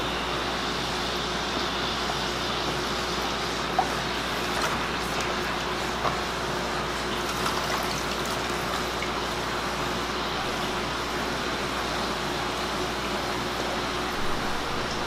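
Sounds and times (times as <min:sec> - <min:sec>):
aquarium bubbling water: 0:00.0 - 0:15.0.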